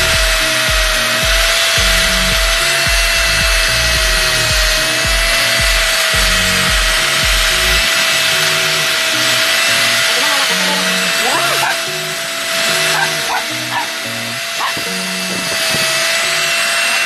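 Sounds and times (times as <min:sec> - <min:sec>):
angle grinder whining: 0:00.0 - 0:17.0
background music with bass: 0:00.0 - 0:17.0.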